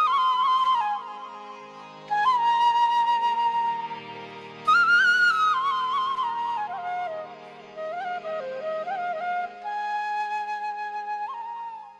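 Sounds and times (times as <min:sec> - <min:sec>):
flute melody with trills: 0:00.0 - 0:11.9.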